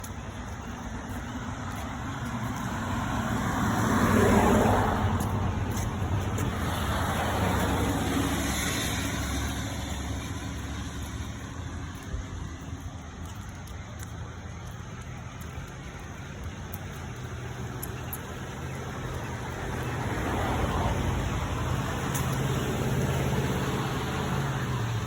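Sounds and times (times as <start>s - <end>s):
car passing: 0.0s - 25.0s
low traffic rumble: 0.0s - 25.0s.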